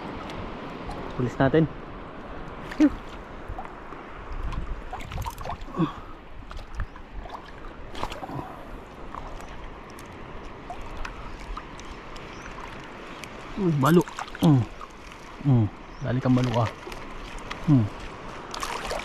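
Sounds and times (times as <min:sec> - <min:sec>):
shallow water sloshing: 0:02.0 - 0:19.0.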